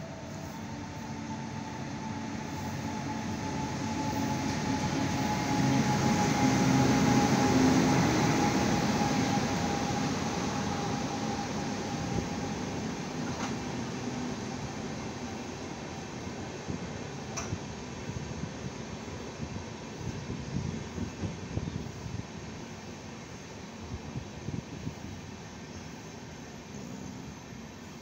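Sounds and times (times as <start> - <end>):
electric train rumbling past: 0.0 - 28.0.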